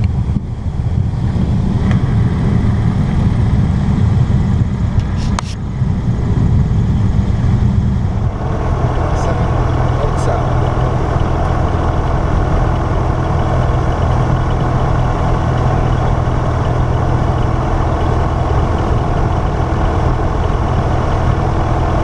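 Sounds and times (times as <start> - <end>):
aircraft engine and propeller idling: 0.0 - 22.0.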